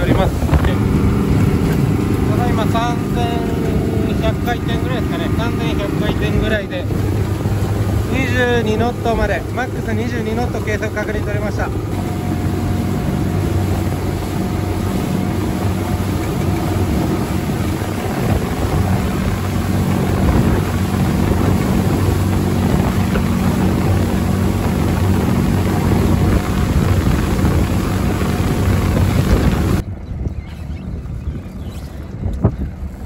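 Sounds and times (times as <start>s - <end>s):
boat diesel engine drone: 0.0s - 33.0s
rushing wake: 0.0s - 33.0s
wind on microphone: 0.0s - 33.0s.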